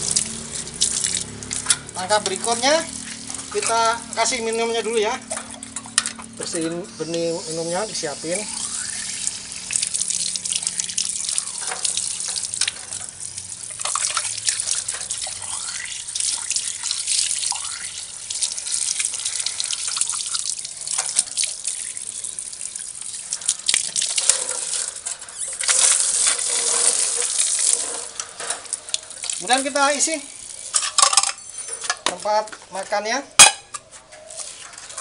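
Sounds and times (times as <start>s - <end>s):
water splashing from garden hose: 0.0s - 33.6s, 34.2s - 35.0s.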